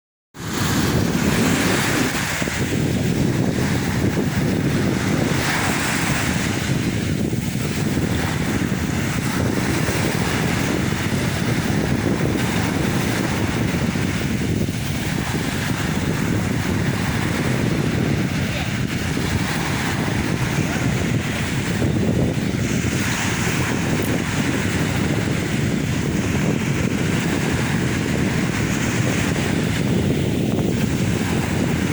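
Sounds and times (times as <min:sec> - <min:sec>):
waves washing onto shore: 0:00.4 - 0:31.9
wind rumble on microphone: 0:00.4 - 0:31.9.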